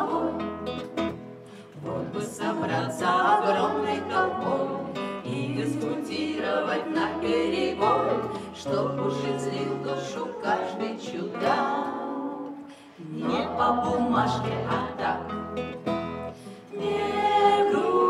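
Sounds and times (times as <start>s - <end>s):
acoustic guitars strumming: 0.0s - 18.0s
woman singing: 1.8s - 15.4s, 16.7s - 18.0s.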